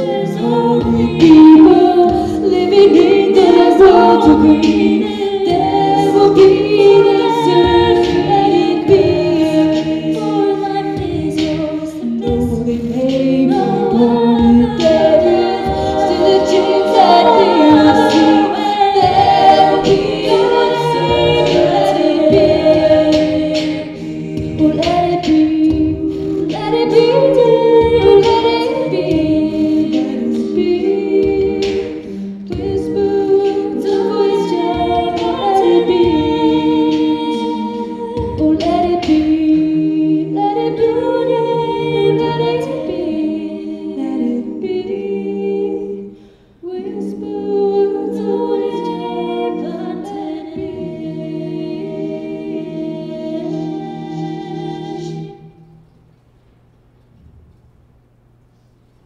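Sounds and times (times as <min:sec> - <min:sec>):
female group singing in harmony: 0:00.0 - 0:56.1.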